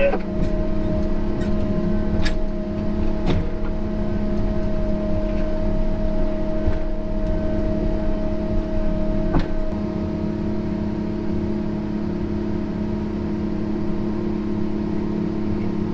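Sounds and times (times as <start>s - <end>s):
diesel engine running with whine: 0.0s - 15.9s.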